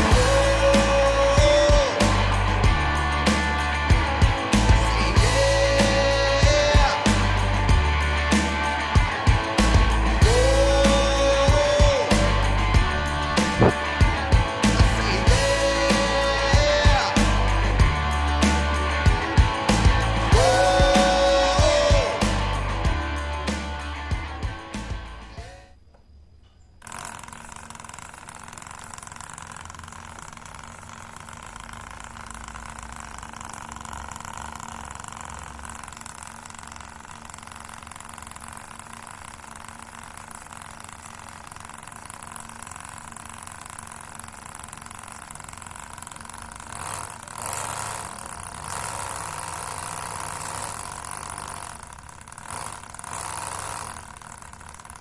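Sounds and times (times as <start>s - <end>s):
model engine motor whine: 0.0s - 25.9s, 26.7s - 55.0s.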